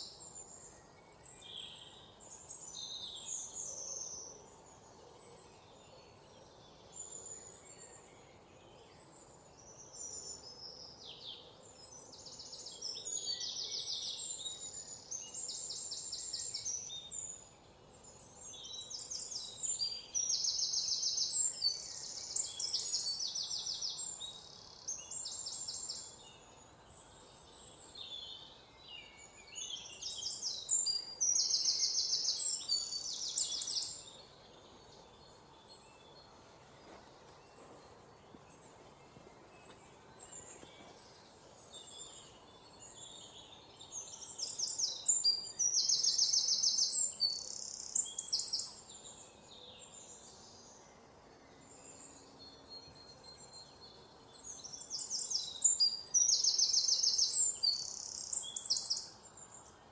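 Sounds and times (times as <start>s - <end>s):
faint outdoor background: 0.0s - 59.9s
songbirds trilling and chirping: 0.0s - 59.9s.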